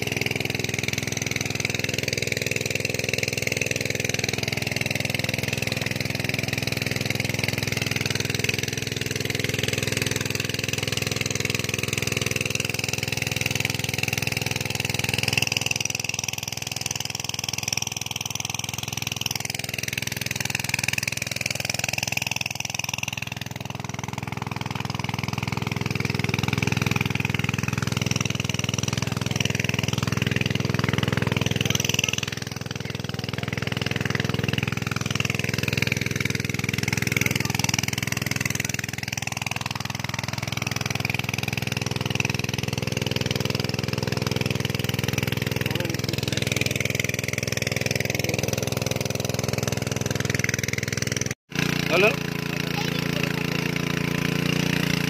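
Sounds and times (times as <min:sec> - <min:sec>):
engine-driven water pump running: 0:00.0 - 0:55.0.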